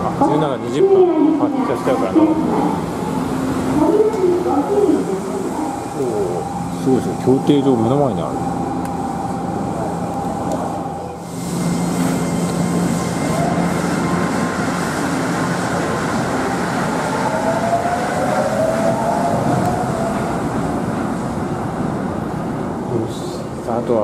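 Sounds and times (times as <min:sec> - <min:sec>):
train hum with held tone: 0:00.0 - 0:24.0
train rolling noise: 0:00.0 - 0:24.0.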